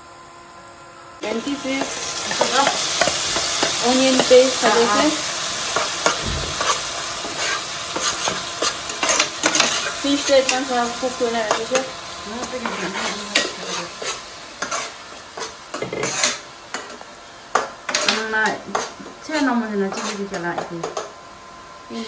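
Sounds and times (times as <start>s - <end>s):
onion paste sizzling in oil: 0.4s - 22.0s
spoon scraping a pan: 1.4s - 21.1s.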